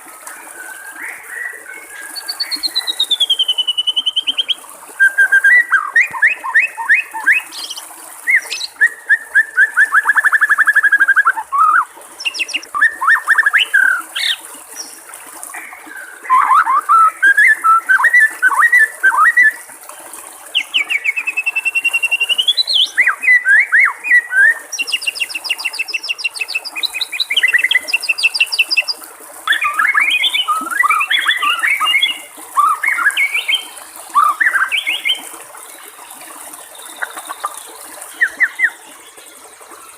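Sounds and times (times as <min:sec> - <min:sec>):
trickling water: 0:00.0 - 0:39.9
songbird singing varied phrases: 0:01.3 - 0:15.0, 0:16.0 - 0:19.6, 0:20.6 - 0:35.2, 0:37.0 - 0:38.8.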